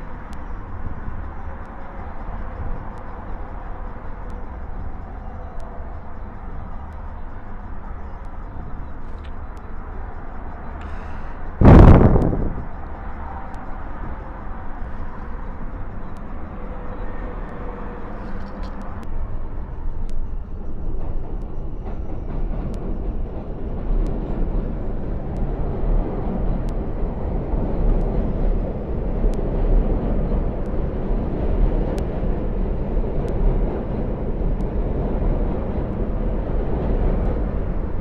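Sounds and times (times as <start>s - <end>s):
subway train rumbling: 0.0s - 38.0s.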